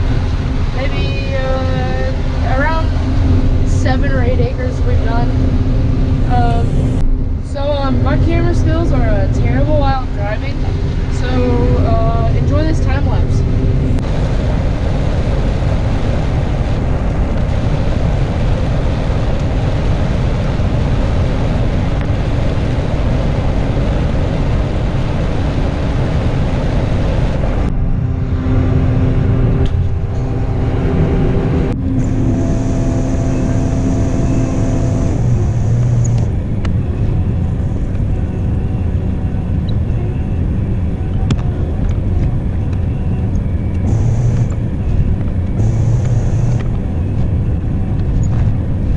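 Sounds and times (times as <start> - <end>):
combine harvester rumbling: 0.0 - 48.9
steady hum: 0.0 - 48.9.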